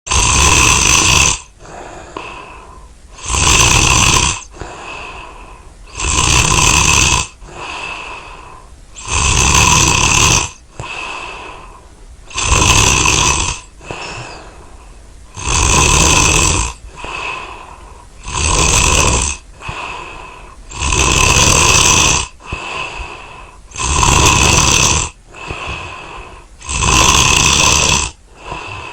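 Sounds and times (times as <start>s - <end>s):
person snoring: 0.1s - 28.9s
quiet breathing out: 0.4s - 28.9s.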